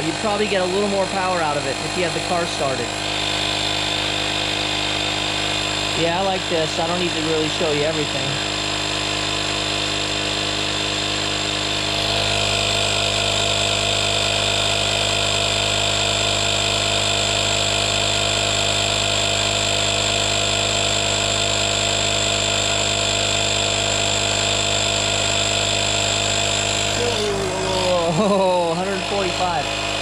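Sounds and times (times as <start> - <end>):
air compressor running: 0.0 - 30.0.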